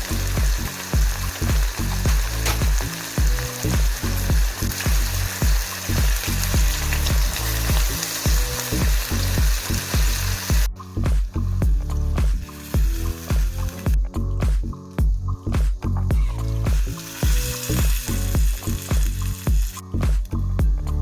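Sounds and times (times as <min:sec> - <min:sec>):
food sizzling in a pan: 0:00.0 - 0:14.0, 0:14.6 - 0:20.4
background music with a beat: 0:00.0 - 0:21.0.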